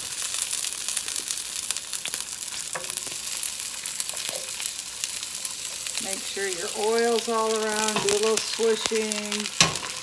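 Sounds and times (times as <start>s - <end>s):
potstickers sizzling in oil: 0.0s - 10.0s.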